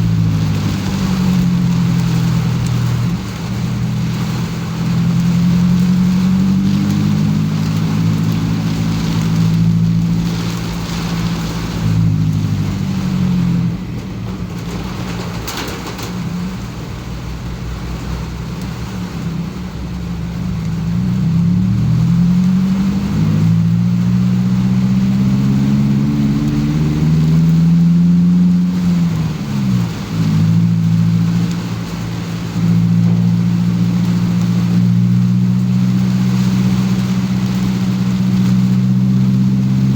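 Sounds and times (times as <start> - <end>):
car engine accelerating: 0.0 - 39.9
rain hiss on wet road: 0.0 - 39.9.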